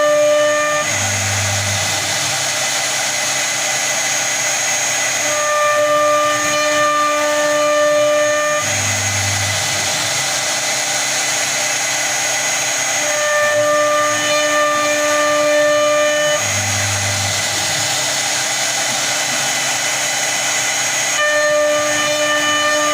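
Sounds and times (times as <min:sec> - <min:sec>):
router spindle high whine: 0:00.0 - 0:22.9.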